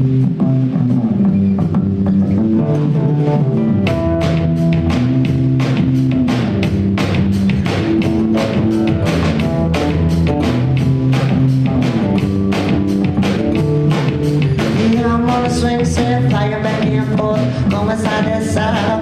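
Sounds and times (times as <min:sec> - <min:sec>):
bass guitar: 0:00.0 - 0:19.0
drum kit beat: 0:00.0 - 0:19.0
guitar: 0:00.0 - 0:19.0.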